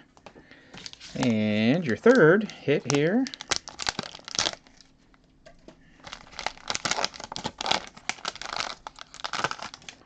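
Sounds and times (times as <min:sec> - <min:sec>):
plastic packaging crinkling: 0:00.8 - 0:05.0, 0:06.0 - 0:10.0.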